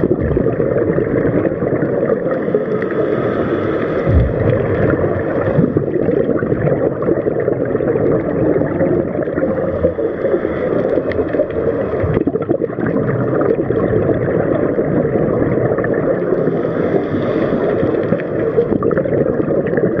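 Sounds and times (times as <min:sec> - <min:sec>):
muffled underwater water rumble: 0:00.0 - 0:20.0.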